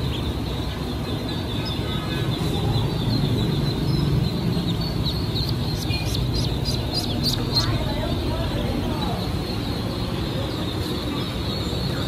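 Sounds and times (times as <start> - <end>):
ducklings peeping: 0.0 - 12.0
steady low rumble: 0.0 - 12.0.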